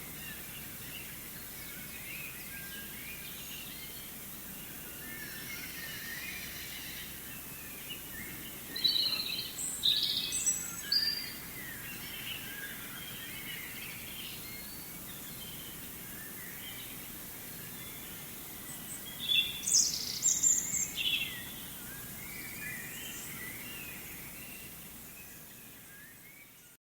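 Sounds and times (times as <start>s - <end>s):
loud bird song: 0.0s - 26.8s.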